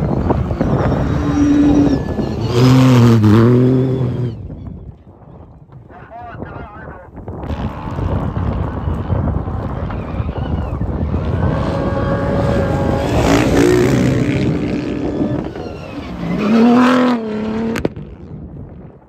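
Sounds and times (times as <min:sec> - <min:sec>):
buggy engine revving hard: 0:00.0 - 0:04.4, 0:07.4 - 0:18.3.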